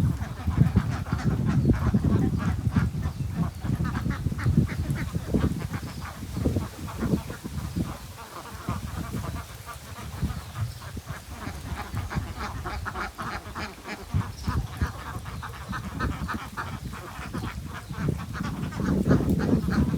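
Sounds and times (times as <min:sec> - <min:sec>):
ducks quacking: 0:00.0 - 0:19.9.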